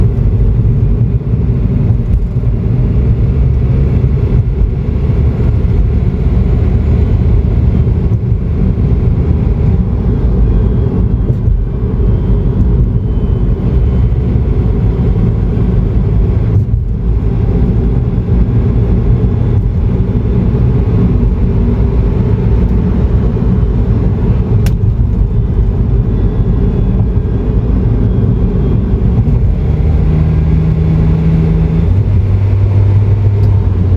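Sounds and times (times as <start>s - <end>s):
faint whine: 0.0s - 33.9s
vehicle road rumble: 0.0s - 33.9s.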